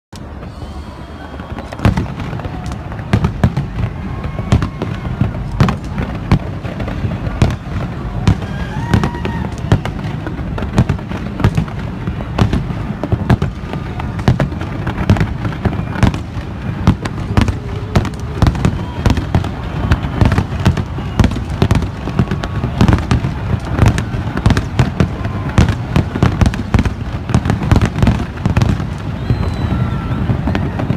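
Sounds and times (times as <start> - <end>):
fireworks bangs: 0.2 - 30.9.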